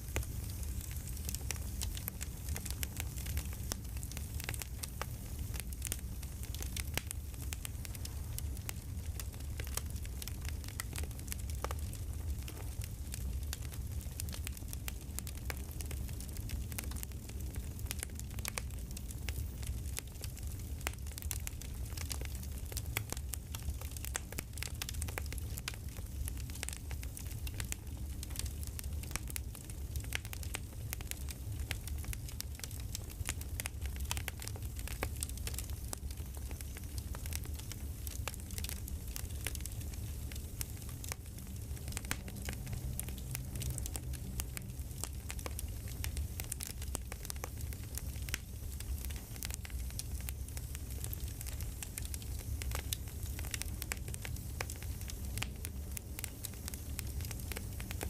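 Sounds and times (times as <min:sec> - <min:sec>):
campfire low rumble: 0:00.0 - 0:58.0
campfire pops and snaps: 0:00.0 - 0:58.0.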